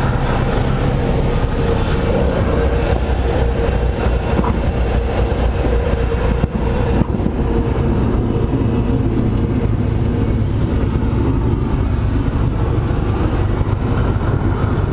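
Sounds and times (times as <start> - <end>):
aircraft engine cabin rumble: 0.0 - 14.9
thin steady whine: 0.0 - 14.9.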